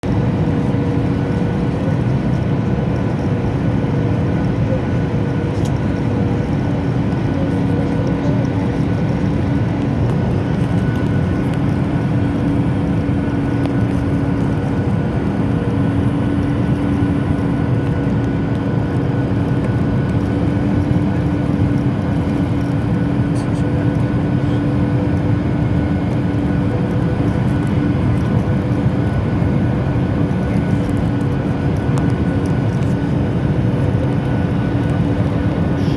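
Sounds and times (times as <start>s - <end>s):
jet engines and airflow inside cabin: 0.0s - 35.9s.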